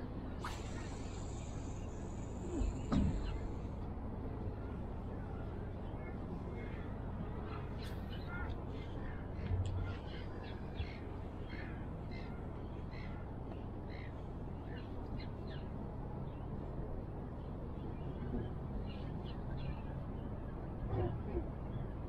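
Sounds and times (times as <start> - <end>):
sea: 0.0 - 22.0
wind: 0.0 - 22.0.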